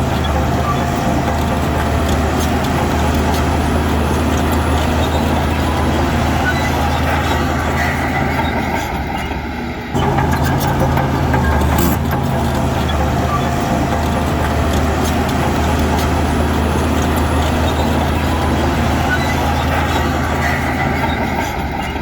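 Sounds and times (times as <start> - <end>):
heavy diesel engine running: 0.0 - 9.0, 10.0 - 22.0.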